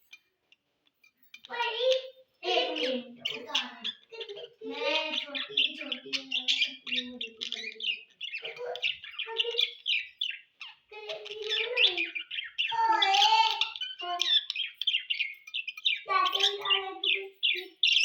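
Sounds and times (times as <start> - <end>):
budgerigars chattering and warbling: 0.0 - 18.0.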